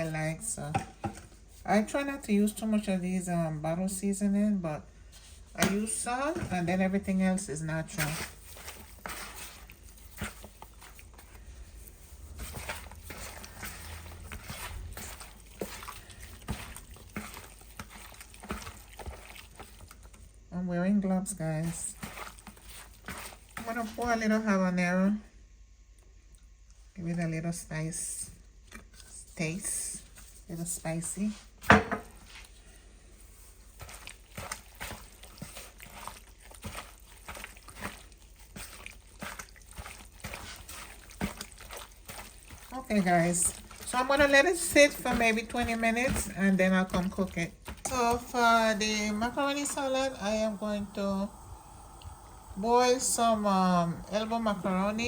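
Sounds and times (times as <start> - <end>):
soft wet squishing: 5.0 - 20.6, 21.3 - 24.4, 28.4 - 55.0.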